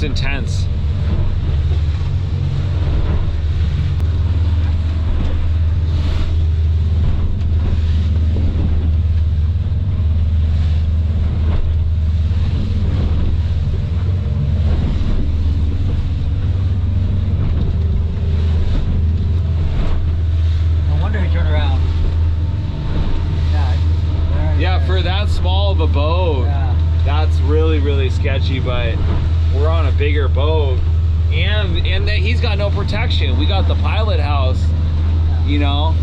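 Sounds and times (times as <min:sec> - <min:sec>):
motorboat engine droning: 0:00.0 - 0:36.0
rushing water and spray: 0:00.0 - 0:36.0
wind buffeting microphone: 0:00.0 - 0:36.0.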